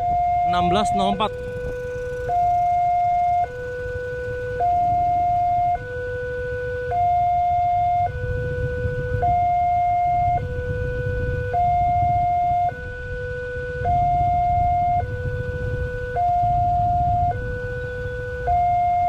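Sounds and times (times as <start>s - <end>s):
low road traffic rumble: 0.0s - 19.0s
two-tone crossing alarm: 0.0s - 19.0s.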